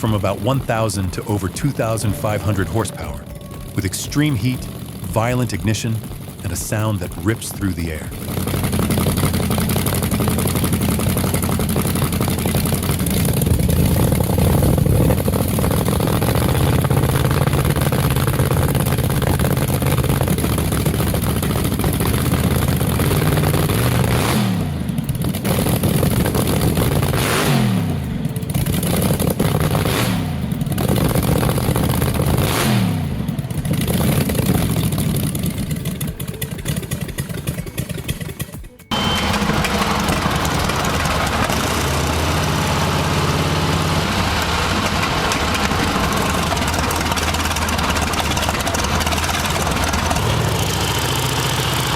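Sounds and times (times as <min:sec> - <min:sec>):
drag racing engine revving: 0:00.0 - 0:51.9.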